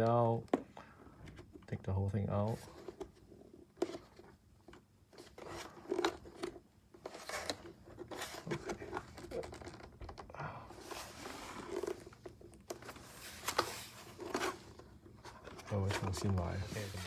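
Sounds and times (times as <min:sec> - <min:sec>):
plastic parts clicking and scraping: 0:02.6 - 0:17.0.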